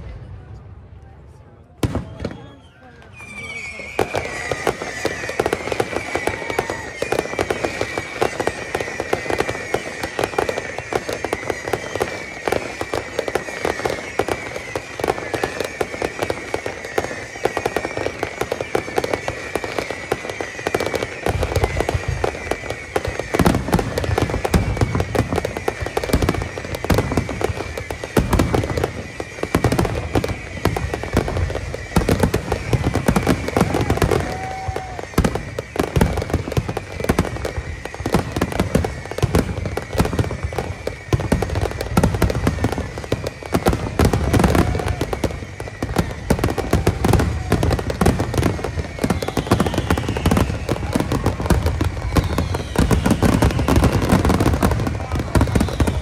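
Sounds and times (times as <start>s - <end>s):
fireworks bangs and crackling: 0.0s - 56.0s
falling firework whistles: 1.8s - 56.0s.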